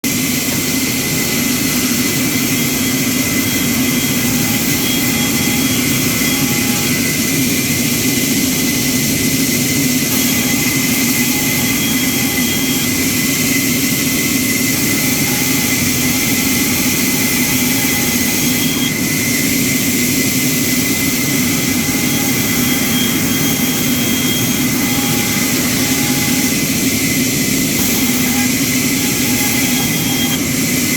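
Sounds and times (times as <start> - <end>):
woodworking machine whirring: 0.0 - 30.9.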